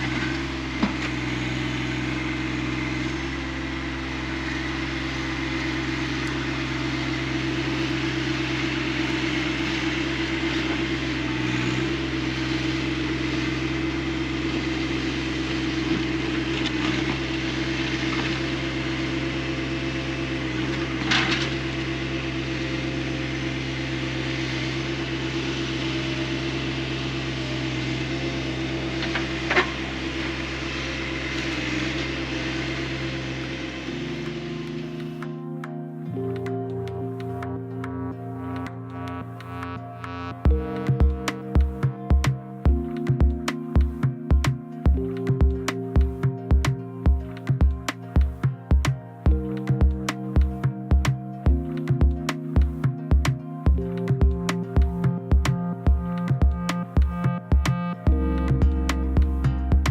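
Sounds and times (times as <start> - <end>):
tractor diesel engine running: 0.0 - 35.4, 36.1 - 59.9.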